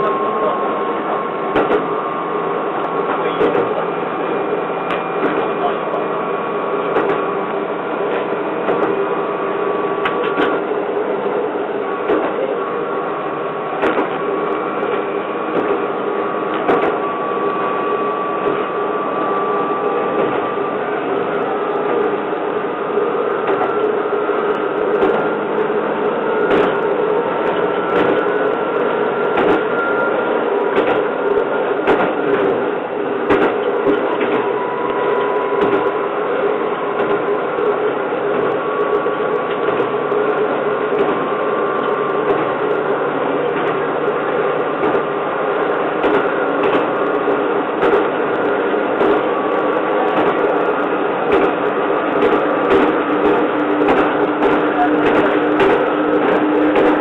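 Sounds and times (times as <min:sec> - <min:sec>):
train running drone: 0:00.0 - 0:57.0.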